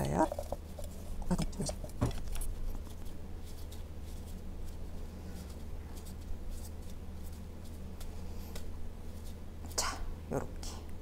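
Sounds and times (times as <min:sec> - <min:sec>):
dough kneaded in steel bowl: 0:00.0 - 0:10.8
low hum: 0:00.0 - 0:11.0
gloved hands rustling: 0:00.1 - 0:09.8.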